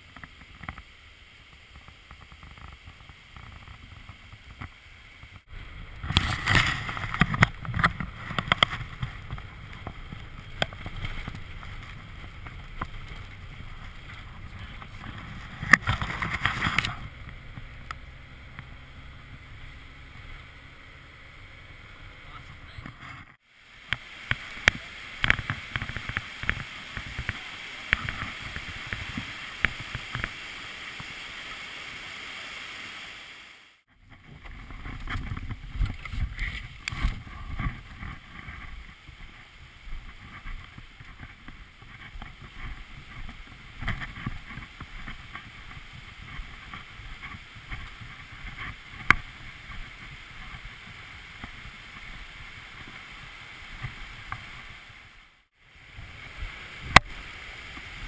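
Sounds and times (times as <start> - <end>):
mountain creek rushing: 0.0 - 58.0.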